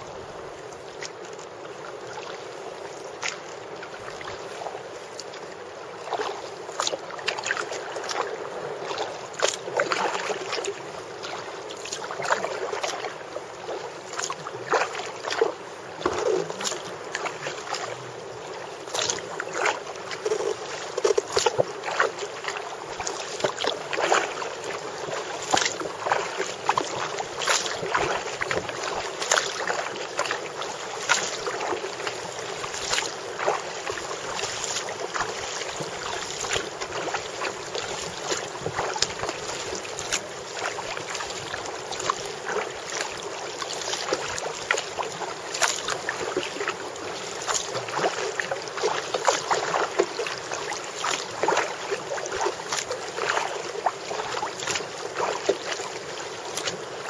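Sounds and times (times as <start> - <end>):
paddle splashing in water: 0.0 - 57.0.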